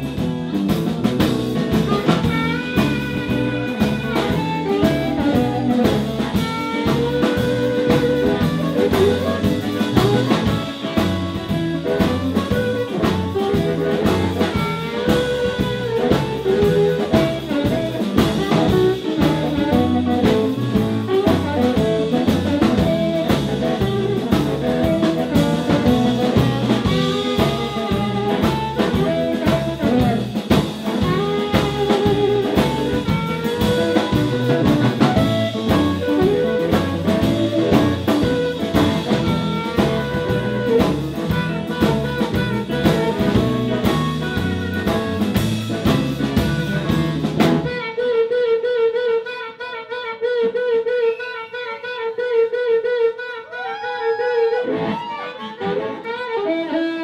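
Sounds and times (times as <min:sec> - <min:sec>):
amplified harmonica: 0:00.0 - 0:57.0
blues band playing: 0:00.0 - 0:57.0.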